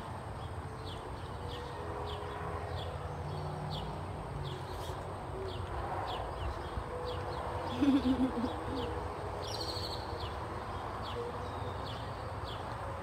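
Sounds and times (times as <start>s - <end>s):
bird chirping: 0.4s - 12.8s.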